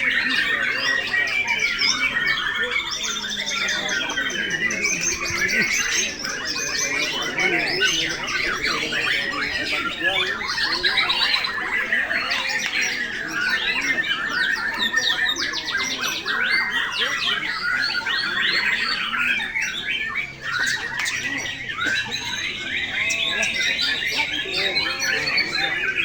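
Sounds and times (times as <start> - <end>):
birds singing in chorus: 0.0 - 26.0.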